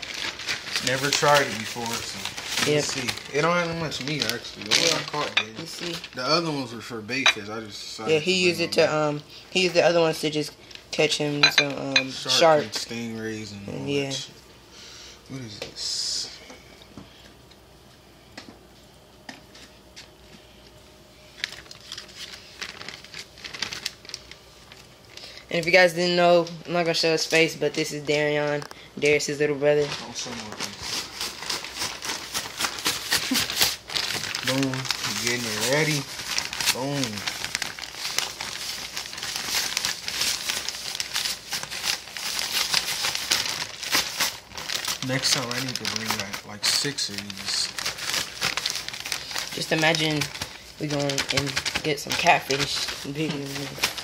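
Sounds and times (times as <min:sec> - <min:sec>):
plastic bag crinkling: 0:00.0 - 0:13.5, 0:21.2 - 0:54.0.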